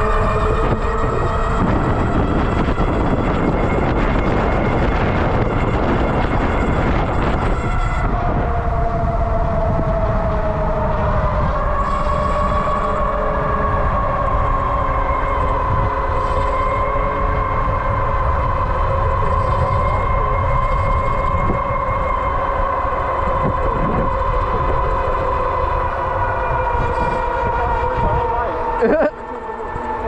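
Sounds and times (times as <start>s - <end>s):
electric bike motor whining: 0.0s - 30.0s
wind rumbling on microphone: 0.0s - 30.0s.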